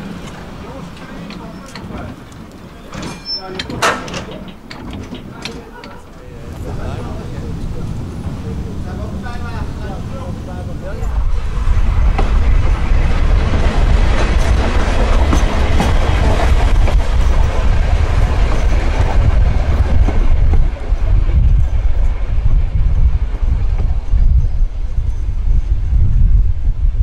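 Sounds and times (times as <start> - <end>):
tram wheels rumbling on rails: 0.0 - 27.0.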